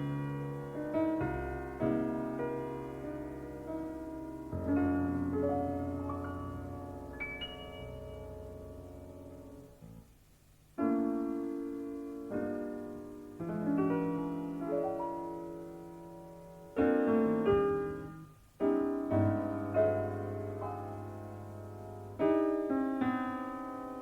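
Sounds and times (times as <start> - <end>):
jazz piano chords: 0.0 - 24.0.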